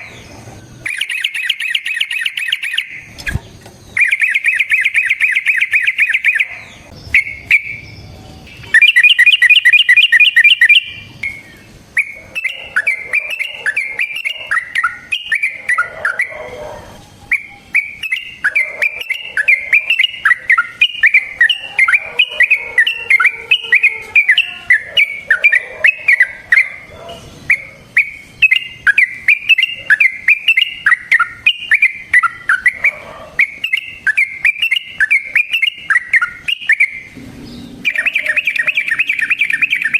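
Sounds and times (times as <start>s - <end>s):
bird singing trills and chatter: 0.0s - 39.9s.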